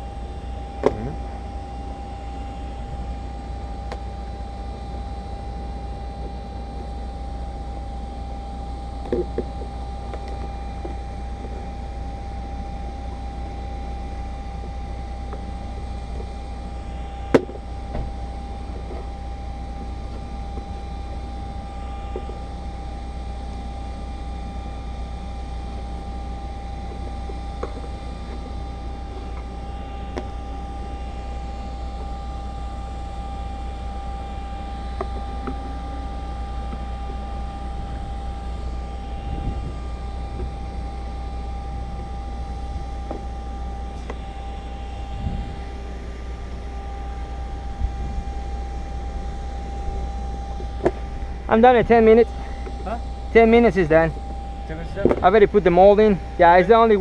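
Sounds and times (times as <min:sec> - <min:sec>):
low mechanical hum with whine: 0:00.0 - 0:57.0.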